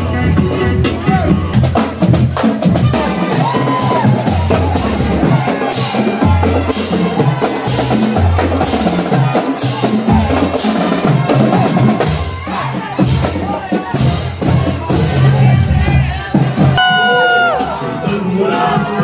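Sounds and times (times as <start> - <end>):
bass drums: 0.0 - 19.0
snare drums: 0.0 - 19.0.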